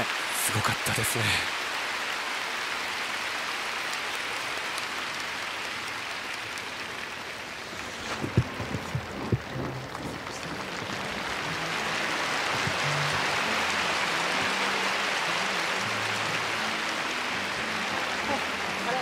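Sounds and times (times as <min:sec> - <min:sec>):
arena crowd applauding: 0:00.0 - 0:19.0.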